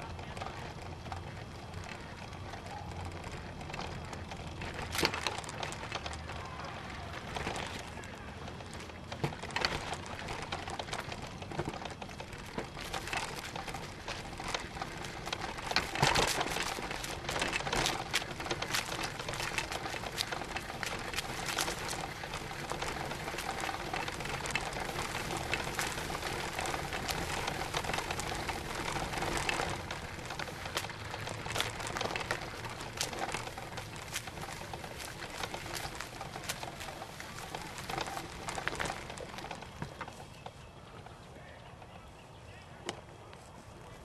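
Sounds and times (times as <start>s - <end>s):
camera rolling on paved path: 0.0s - 44.0s.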